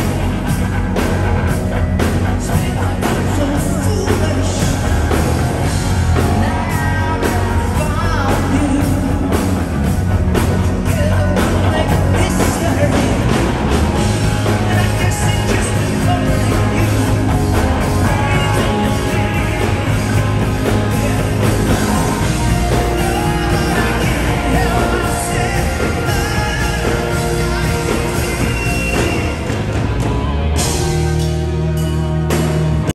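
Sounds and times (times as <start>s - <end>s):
drums: 0.0s - 32.9s
electric bass guitar: 0.0s - 32.9s
keyboards: 0.0s - 32.9s
person singing lead vocal: 2.1s - 29.7s.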